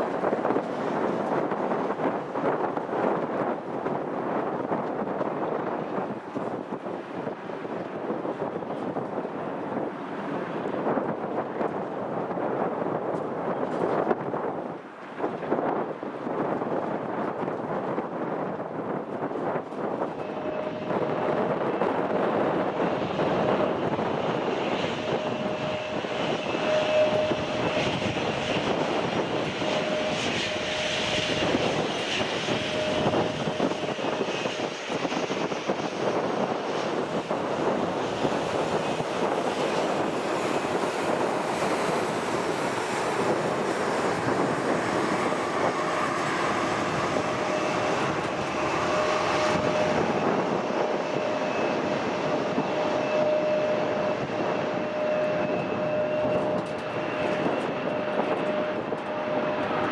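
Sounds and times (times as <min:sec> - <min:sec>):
airliner engines running: 0:00.0 - 0:59.9.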